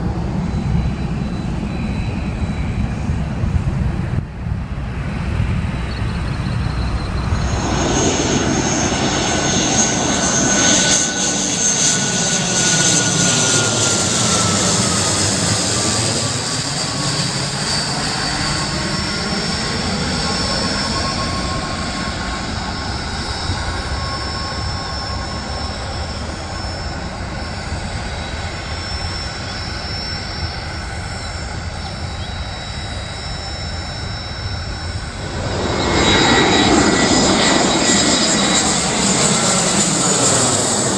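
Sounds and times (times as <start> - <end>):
airliner engines whining: 0.0 - 40.9.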